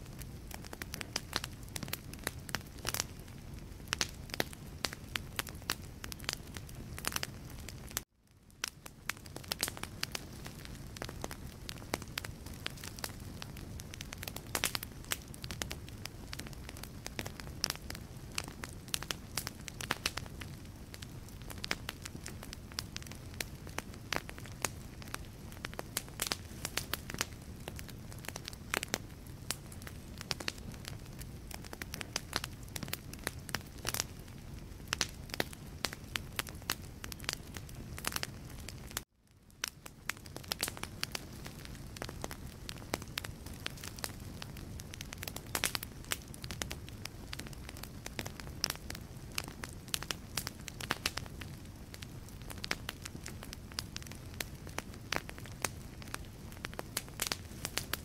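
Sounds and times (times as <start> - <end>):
rush of flames: 0.0 - 8.0, 8.6 - 39.0, 39.6 - 58.0
fire crackling and popping: 0.0 - 58.0.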